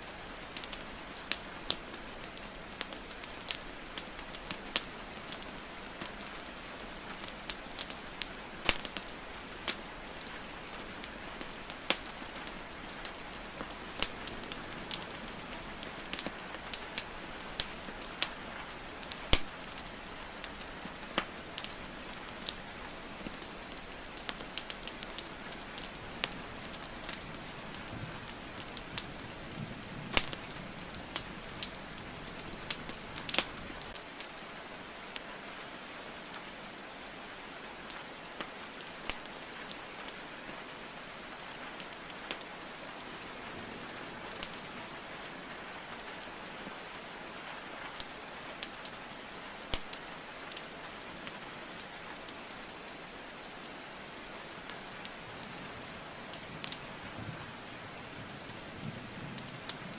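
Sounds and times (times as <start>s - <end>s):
rainfall hiss: 0.0s - 59.9s
wood fire crackling: 0.0s - 59.9s.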